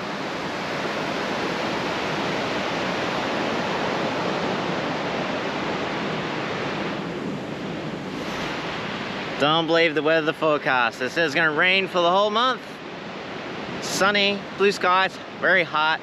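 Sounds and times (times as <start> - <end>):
waves washing up beach: 0.0 - 16.0.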